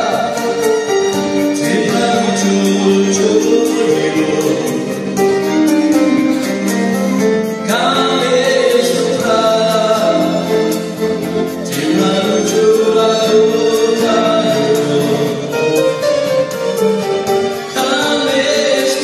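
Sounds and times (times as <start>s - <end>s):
hymn singing: 0.0s - 19.0s
instrumental accompaniment: 0.0s - 19.0s.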